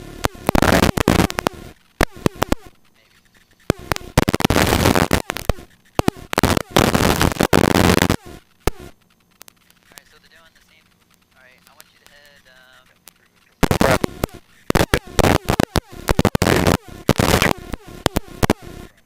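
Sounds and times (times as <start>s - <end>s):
radio static hiss bursts: 0.0s - 19.0s
sharp radio clicks: 0.1s - 19.0s.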